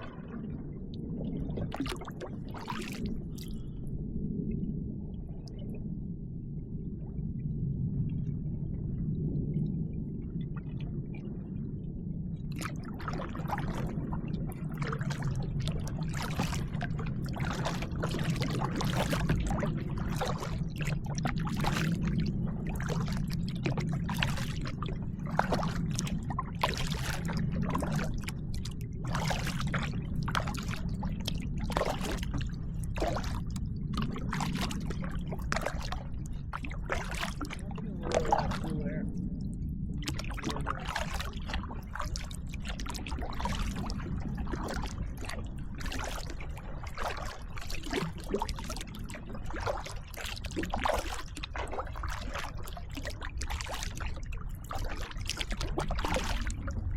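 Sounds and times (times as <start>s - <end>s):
steady low rumble: 0.0s - 56.9s
kayak paddle splashing: 1.2s - 3.8s, 12.6s - 38.9s, 40.0s - 56.9s.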